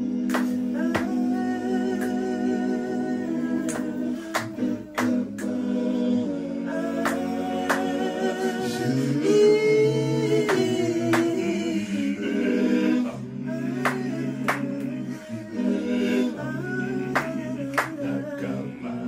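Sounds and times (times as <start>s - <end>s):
male vocal group singing harmony: 0.0s - 19.0s.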